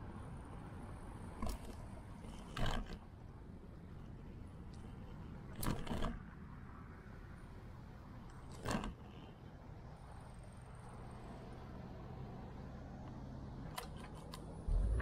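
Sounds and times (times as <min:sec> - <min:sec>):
low rumble of wind and rolling: 0:00.0 - 0:15.0.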